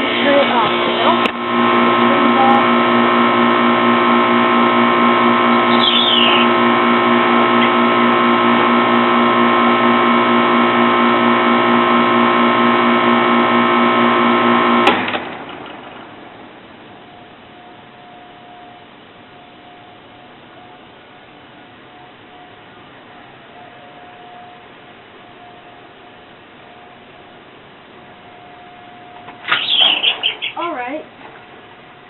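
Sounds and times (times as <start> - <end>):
heat pump electrical hum: 0.0 - 32.0.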